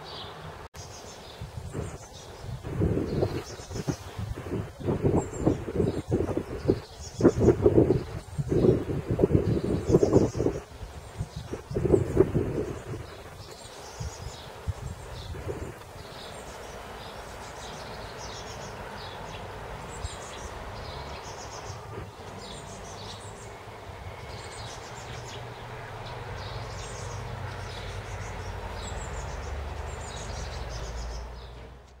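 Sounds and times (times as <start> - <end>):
sparrows chirping: 0.0 - 31.8.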